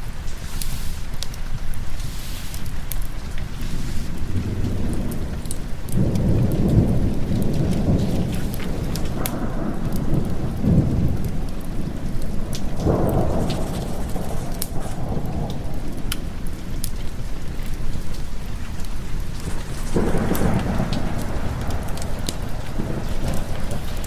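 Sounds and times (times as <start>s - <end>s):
heavy rain: 0.0s - 24.0s
thunder rumbling: 0.0s - 24.0s.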